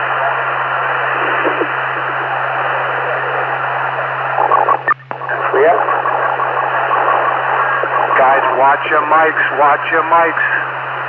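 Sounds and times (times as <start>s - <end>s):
low hum: 0.0s - 11.0s
radio static hiss: 0.0s - 11.0s.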